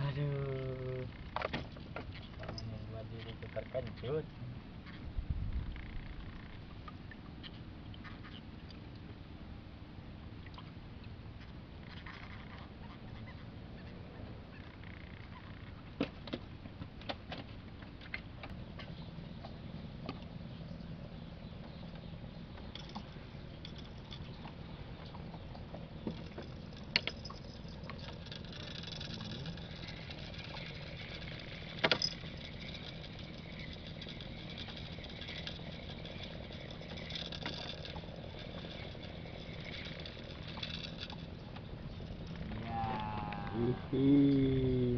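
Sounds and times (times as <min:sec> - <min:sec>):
low engine hum: 0:00.0 - 0:44.9.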